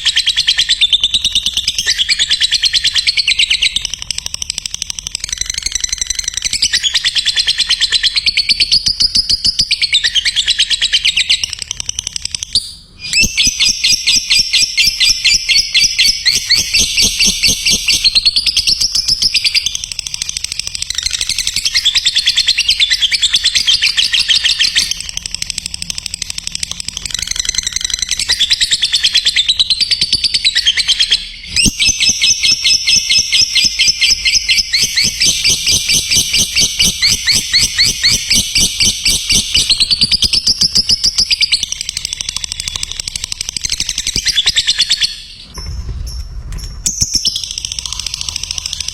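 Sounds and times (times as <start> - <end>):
lovebird chattering: 0.0 - 45.5, 46.9 - 48.9.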